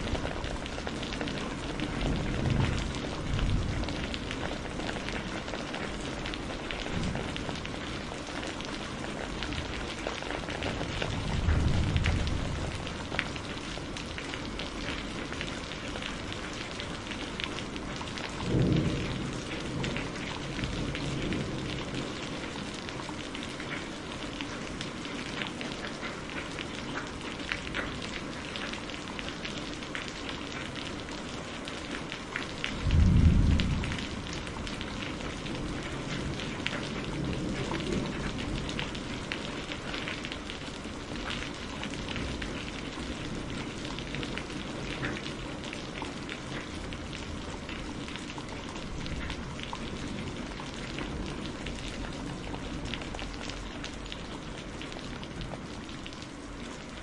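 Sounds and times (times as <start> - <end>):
low rumble of thunder: 0.0 - 24.0, 30.0 - 55.8
heavy rain on palm fronds: 0.0 - 57.0.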